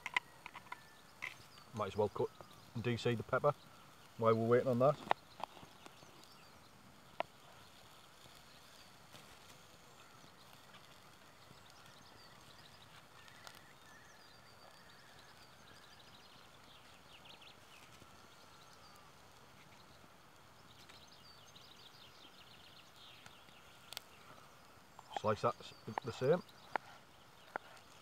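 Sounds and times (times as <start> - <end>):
faint bird calls: 0.0 - 28.0.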